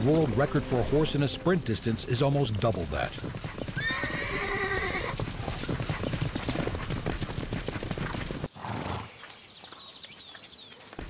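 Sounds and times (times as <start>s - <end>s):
horses galloping hooves: 0.0s - 11.0s.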